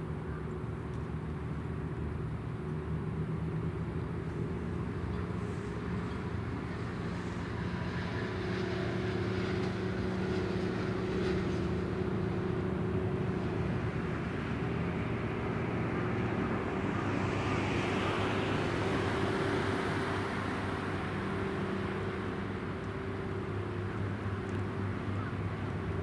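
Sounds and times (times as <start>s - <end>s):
ferry diesel engine drone: 0.0s - 26.0s.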